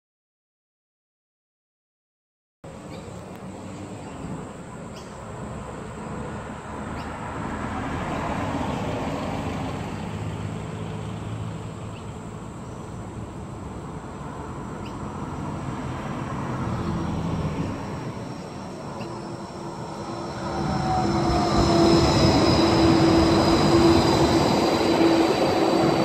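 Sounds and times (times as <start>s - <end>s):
tram hum: 2.7s - 26.0s
vehicles driving by: 2.7s - 26.0s.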